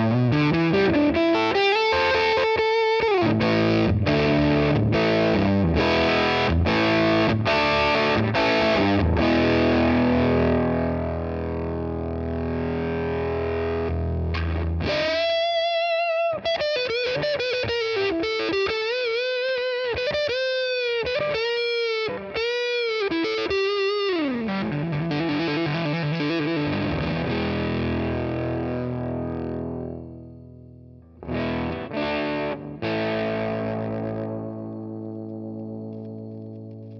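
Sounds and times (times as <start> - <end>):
fuzz electric guitar: 0.0 - 36.9.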